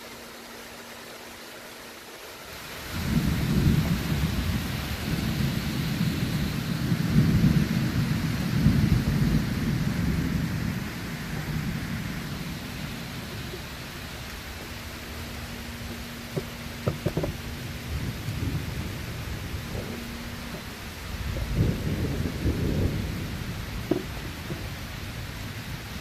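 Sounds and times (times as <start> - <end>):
steady rain: 0.0 - 26.0
thunder rolling: 2.7 - 26.0.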